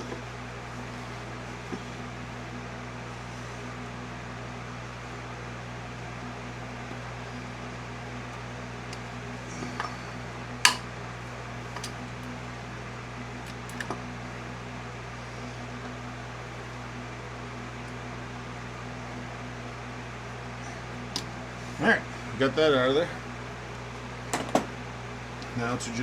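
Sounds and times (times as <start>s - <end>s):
fan-like hum: 0.0s - 26.0s.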